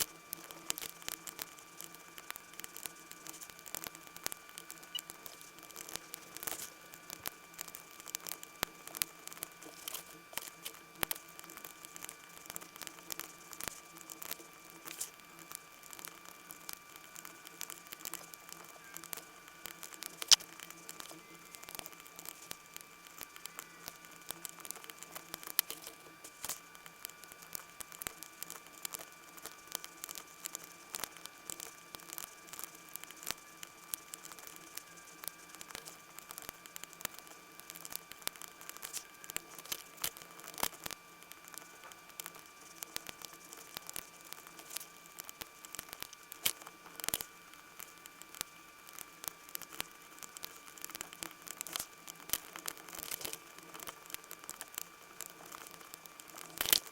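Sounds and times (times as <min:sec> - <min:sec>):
faint steady whine: 0:00.0 - 0:56.9.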